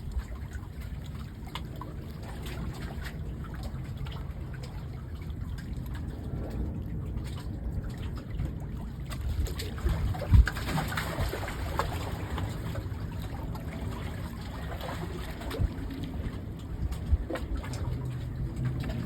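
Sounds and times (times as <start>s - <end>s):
seawater lapping at shore: 0.0s - 19.0s
small splashes: 0.0s - 19.0s
steady low rumble: 0.0s - 19.0s.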